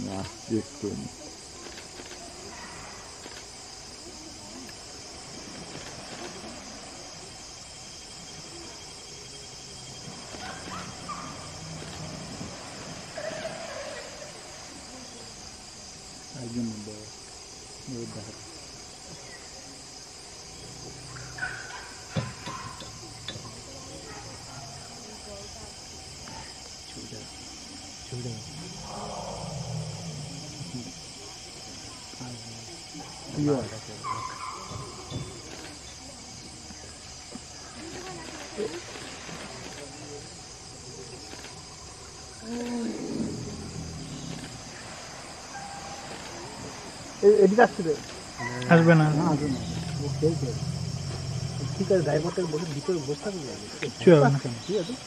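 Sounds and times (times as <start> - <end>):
forest insects droning: 0.0 - 55.0.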